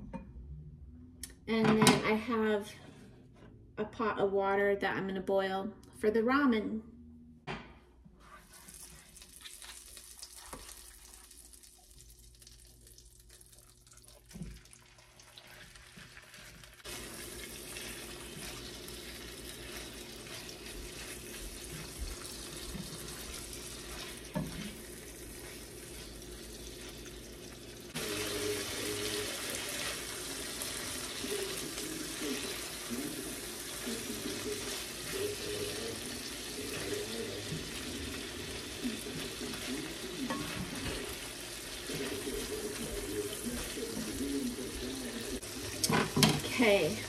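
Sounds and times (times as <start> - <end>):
frying pan sizzling: 8.2 - 47.0.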